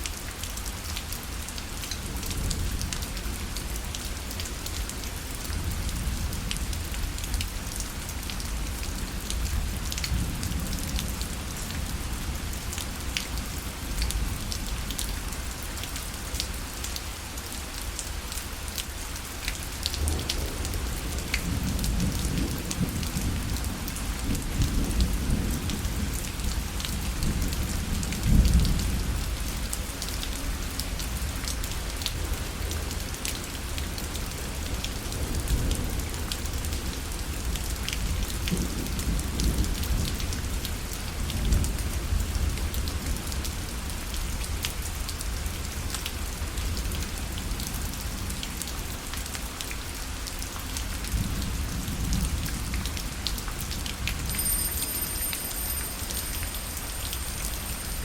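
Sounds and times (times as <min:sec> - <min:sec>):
rain drops on a parasol: 0:00.0 - 0:58.0.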